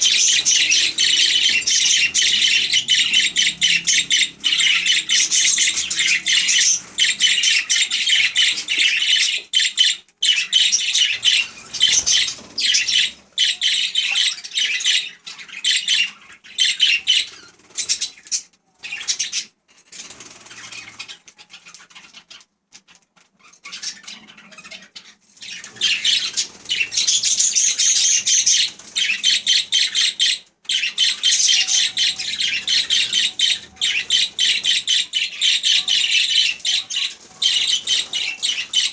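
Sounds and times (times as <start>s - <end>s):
budgerigars chattering and warbling: 0.0s - 19.5s, 23.6s - 38.9s.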